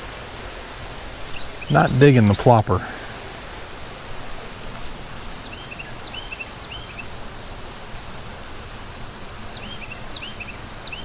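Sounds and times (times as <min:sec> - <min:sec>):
insect drone: 0:00.0 - 0:11.0
outdoor hiss: 0:00.0 - 0:11.0.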